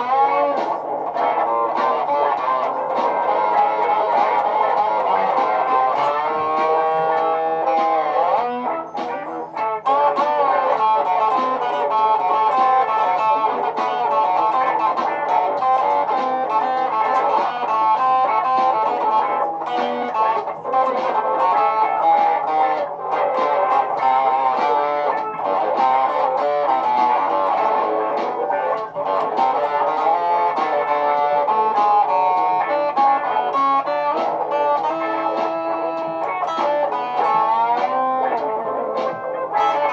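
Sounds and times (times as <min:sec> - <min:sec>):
layered guitar loops: 0:00.0 - 0:39.9.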